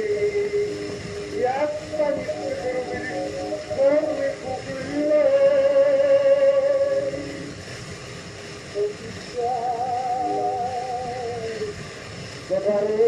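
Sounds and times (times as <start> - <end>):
person singing with vibrato: 0.0 - 7.6, 8.7 - 11.8, 12.5 - 13.0
record surface hiss and crackle: 0.0 - 13.0.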